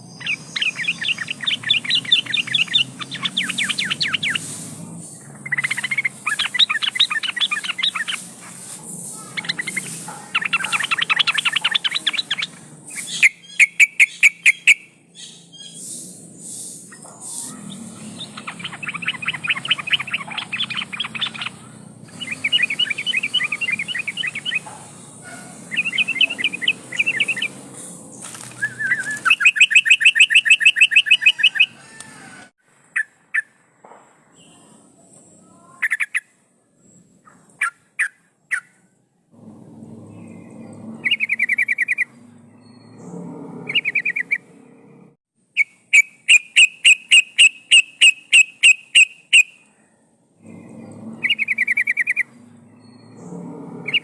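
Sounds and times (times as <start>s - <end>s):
bulbul singing: 0.0s - 31.8s, 39.5s - 44.9s, 45.6s - 49.8s, 50.4s - 54.0s.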